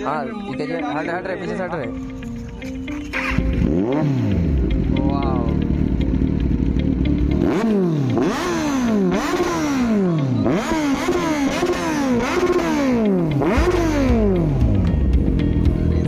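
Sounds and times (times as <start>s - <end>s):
motorcycle engine revving: 2.2s - 15.8s.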